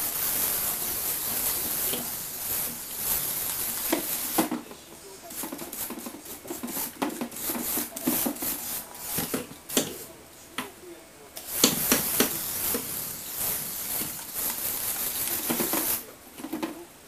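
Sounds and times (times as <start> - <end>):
toy rolling on wooden floor: 0.0 - 10.1, 11.4 - 16.8.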